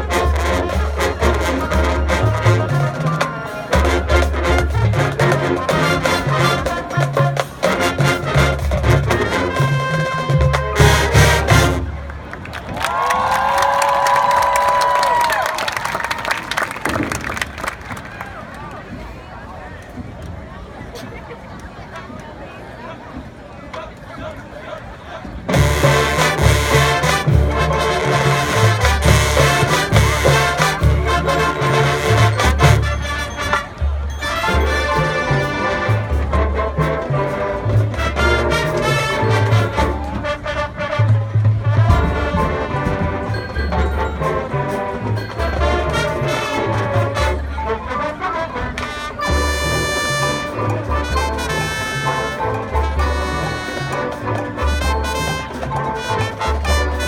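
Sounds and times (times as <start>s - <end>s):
marching band brass: 0.0s - 19.4s, 23.1s - 57.0s.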